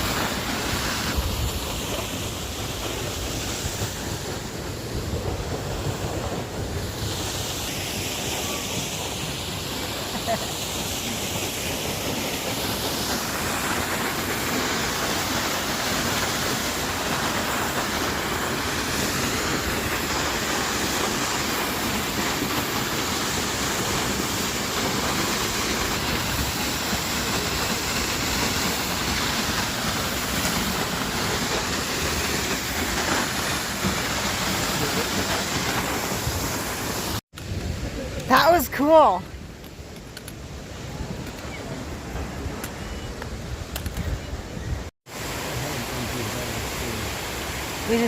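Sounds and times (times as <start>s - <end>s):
waterfall roaring: 0.0s - 39.5s, 40.1s - 48.0s.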